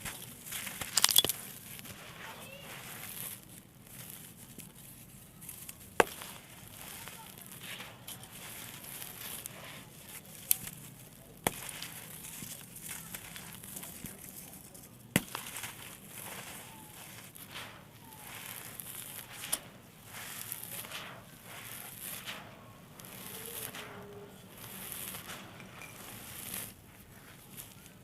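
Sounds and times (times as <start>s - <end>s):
sand and clay crumbling: 0.0s - 28.0s.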